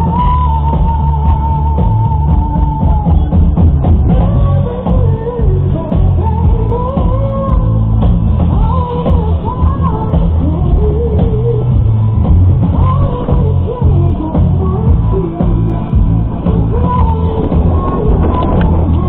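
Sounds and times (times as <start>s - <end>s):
loud rock music with singer: 0.0s - 19.0s.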